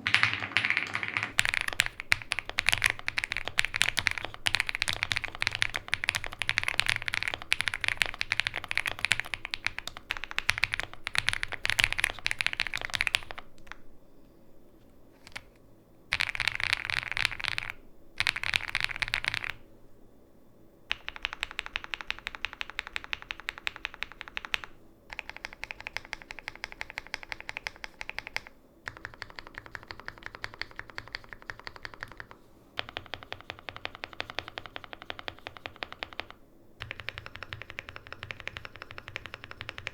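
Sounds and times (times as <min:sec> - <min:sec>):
mechanical keyboard typing: 0:00.0 - 0:13.8, 0:15.2 - 0:19.6, 0:20.9 - 0:39.9.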